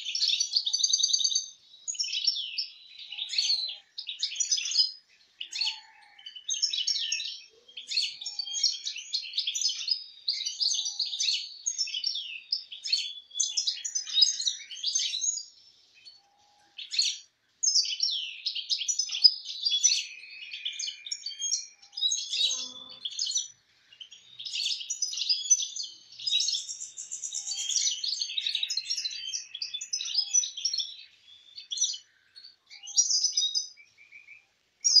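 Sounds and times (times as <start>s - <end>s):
goldfinches chirping: 6.5s - 35.0s.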